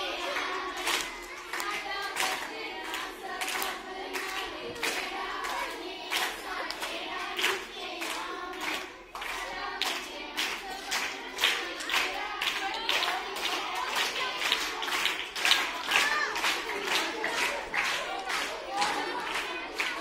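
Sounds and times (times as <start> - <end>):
hands clapping to a beat: 0.0 - 20.0
women singing together: 0.0 - 20.0.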